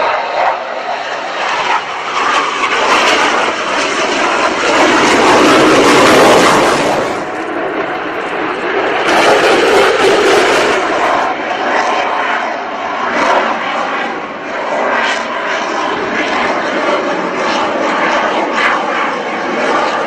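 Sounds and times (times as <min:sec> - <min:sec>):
jet engine noise: 0:00.0 - 0:20.0.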